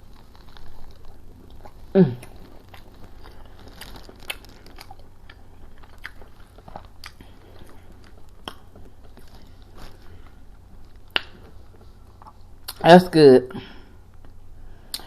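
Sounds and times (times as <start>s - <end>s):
crunchy clicks of food: 0.0s - 12.8s
person chewing with wet smacking: 0.0s - 12.9s.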